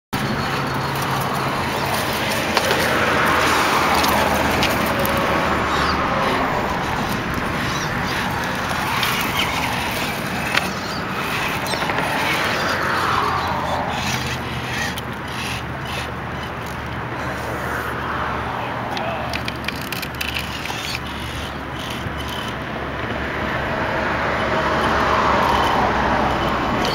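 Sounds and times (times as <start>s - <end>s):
stones crunching under tyres: 0.2s - 18.2s, 18.9s - 22.6s
electric motor and gears whining: 0.2s - 26.9s.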